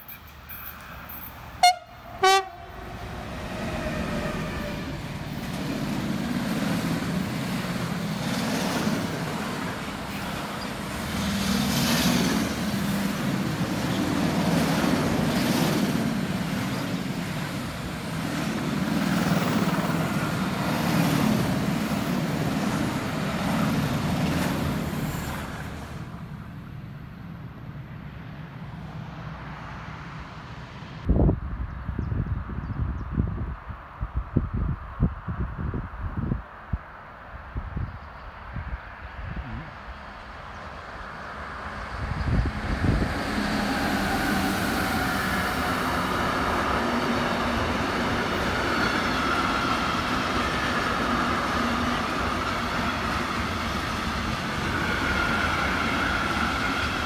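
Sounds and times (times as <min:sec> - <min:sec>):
freight train wheels rumbling: 0:00.0 - 0:30.4, 0:39.4 - 0:57.0.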